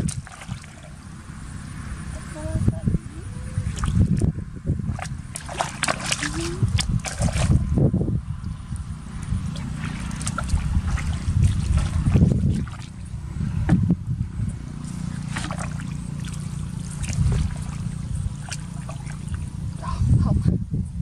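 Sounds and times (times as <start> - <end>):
muddy water sloshing and splashing: 0.0 - 7.7, 8.6 - 13.9, 14.6 - 20.0
steady low rumble: 0.0 - 21.0.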